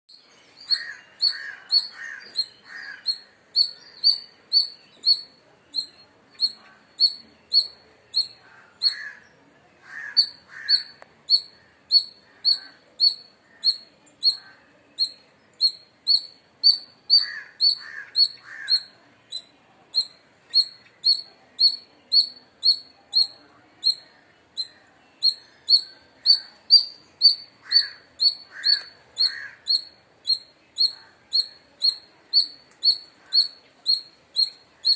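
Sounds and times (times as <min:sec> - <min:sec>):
squirrel chirping: 0:00.1 - 0:09.2, 0:10.0 - 0:34.9
squirrel rough low calls: 0:00.7 - 0:34.9.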